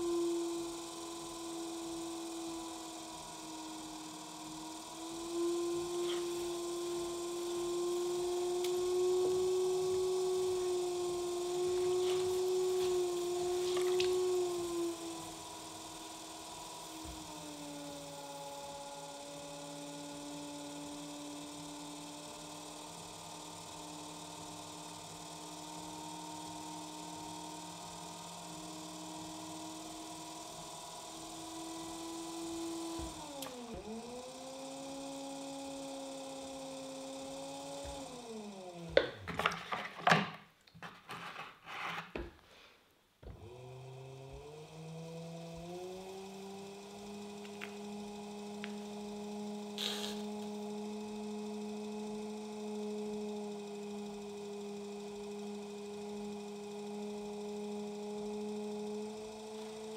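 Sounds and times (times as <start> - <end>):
pottery wheel motor whining: 0.0 - 42.3, 43.2 - 59.9.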